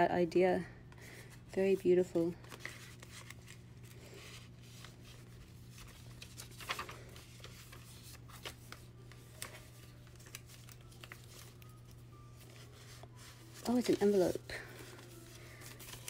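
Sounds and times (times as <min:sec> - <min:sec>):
low steady hum: 0:00.0 - 0:16.0
paper pages rustling: 0:01.6 - 0:16.0.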